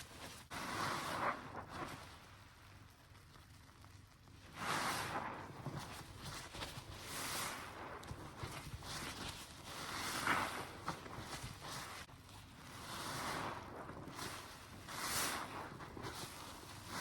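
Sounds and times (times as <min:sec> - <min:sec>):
wet sponge squelching: 0:00.0 - 0:17.0.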